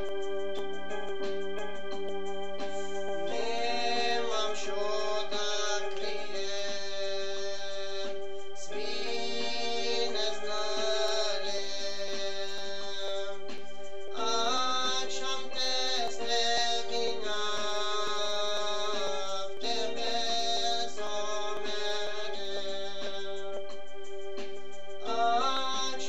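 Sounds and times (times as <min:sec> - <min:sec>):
electronic keyboard organ chords: 0:00.0 - 0:26.0
man singing: 0:03.3 - 0:23.8, 0:25.0 - 0:26.0.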